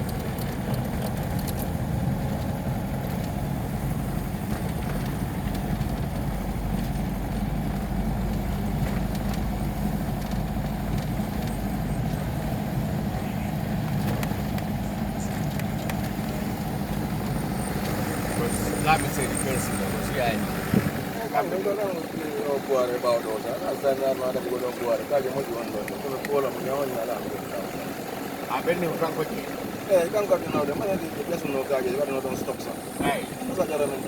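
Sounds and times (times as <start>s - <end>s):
car engine and tyre hum: 0.0s - 34.0s.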